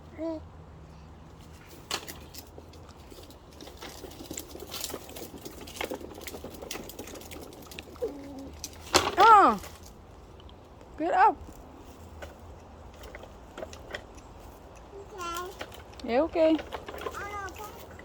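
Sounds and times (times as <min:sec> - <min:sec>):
light clicks and crackles: 0:01.3 - 0:18.0.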